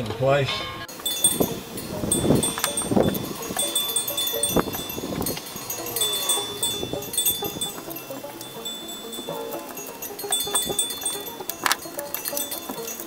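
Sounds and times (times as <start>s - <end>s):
high chime-like ringing tones: 0.5s - 13.0s
knocks and clinks of hand tools: 0.5s - 13.0s.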